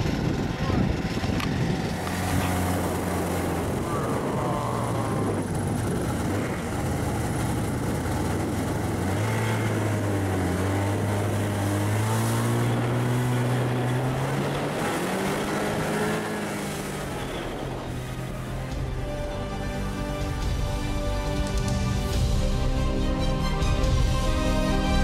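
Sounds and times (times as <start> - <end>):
snowmobile engines revving: 0.0 - 22.1.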